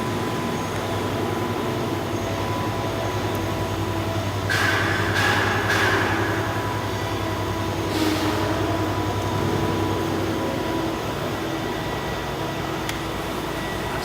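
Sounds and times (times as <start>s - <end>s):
industrial machinery humming: 0.0s - 14.0s.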